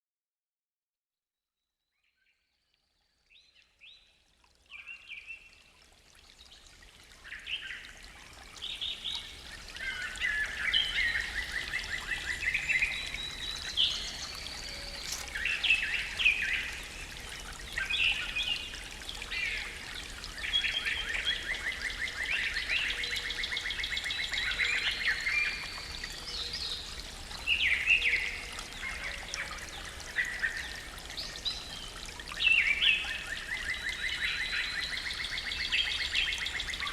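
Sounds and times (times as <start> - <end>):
songbirds singing: 3.3 - 36.9.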